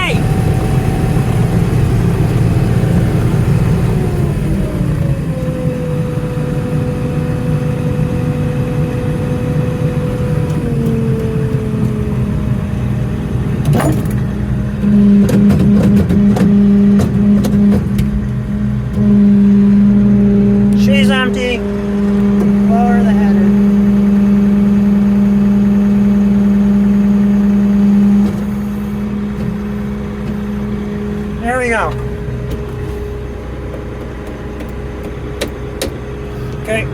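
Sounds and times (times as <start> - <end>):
engine whine: 0.0 - 36.9
farm machine engine running: 0.0 - 36.9.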